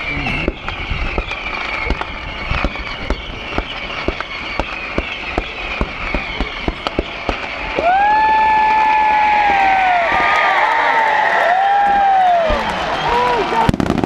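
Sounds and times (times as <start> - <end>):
steady whistling tone: 0.0 - 13.7
fireworks popping and banging: 0.0 - 14.0
murmur of large crowd: 0.0 - 14.0.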